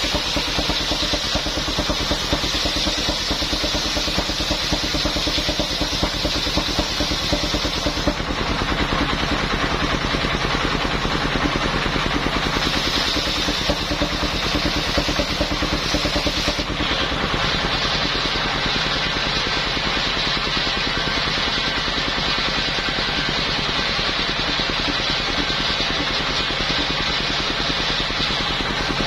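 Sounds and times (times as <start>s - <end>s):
saw blade whine: 0.0s - 10.0s, 10.6s - 29.0s
sawmill engine pulsing: 0.0s - 29.0s.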